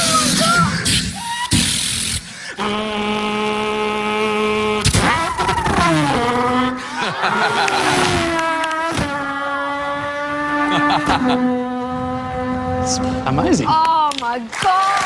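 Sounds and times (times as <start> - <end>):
boy imitating car engine: 0.0 - 13.8.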